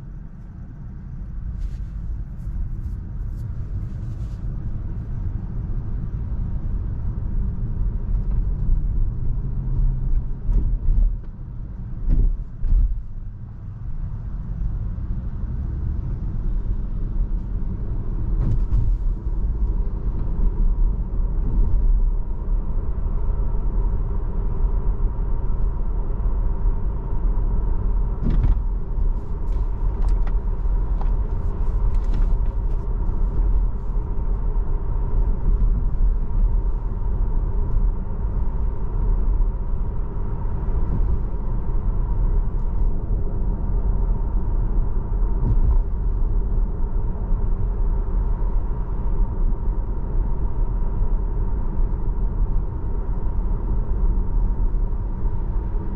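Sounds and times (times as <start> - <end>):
tyre and road rumble: 0.0 - 55.9.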